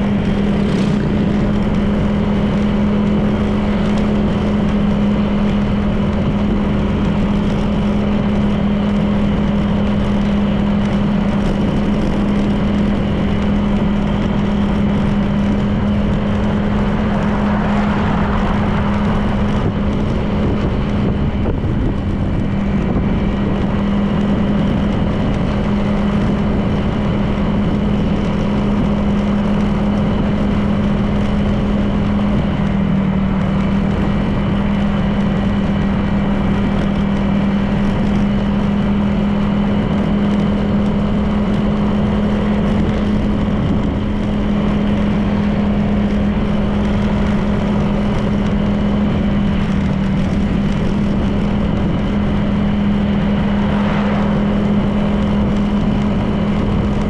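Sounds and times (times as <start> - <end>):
scooter engine cruising: 0.0 - 57.0
wind and road noise: 0.0 - 57.0.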